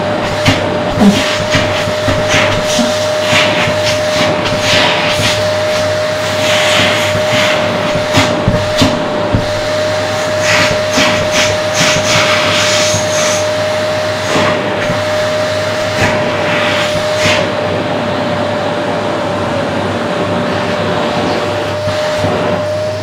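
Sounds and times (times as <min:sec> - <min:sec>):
hissing airflow surges: 0:00.0 - 0:18.5
vacuum cleaner motor whine: 0:00.0 - 0:23.0.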